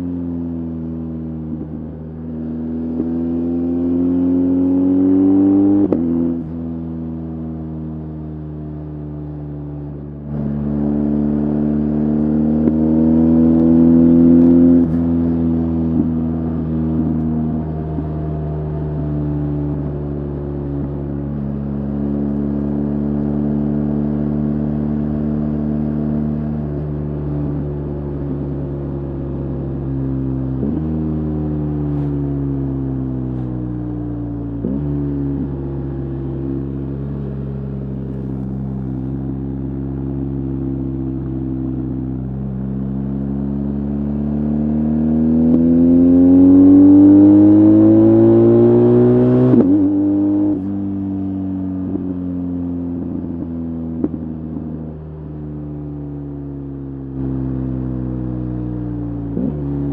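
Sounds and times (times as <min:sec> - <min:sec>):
motorcycle engine revving: 0:00.8 - 0:06.6, 0:10.3 - 0:55.4, 0:56.0 - 0:59.9.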